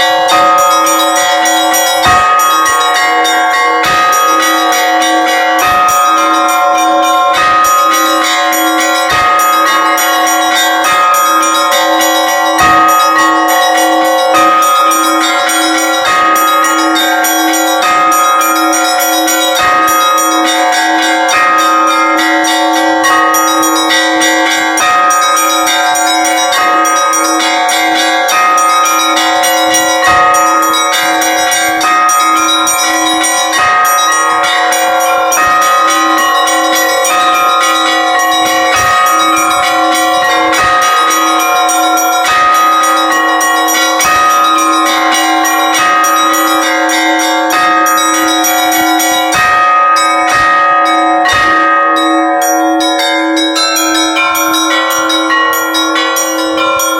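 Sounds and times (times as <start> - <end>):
low bell struck evenly: 0.0 - 56.9
quick strokes on small bells: 0.0 - 56.9.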